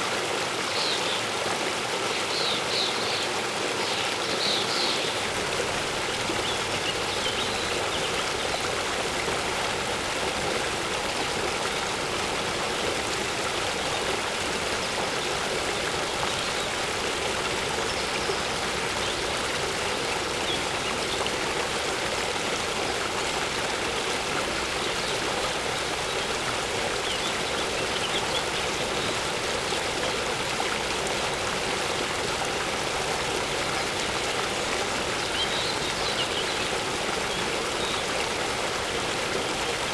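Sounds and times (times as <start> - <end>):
waterfall rushing: 3.8 - 39.9.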